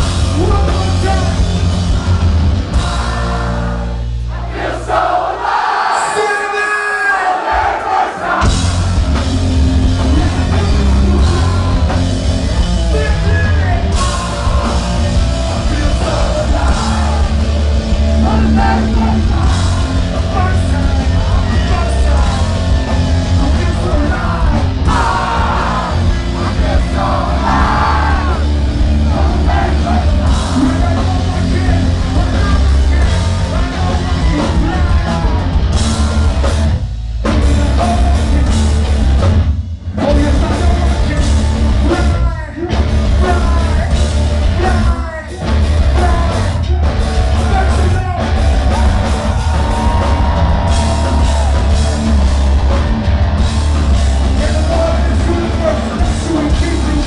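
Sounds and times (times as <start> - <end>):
live rock band playing: 0.0 - 4.6, 8.2 - 57.0
shouted sung lead vocal: 0.2 - 36.5, 40.0 - 53.5, 54.2 - 57.0.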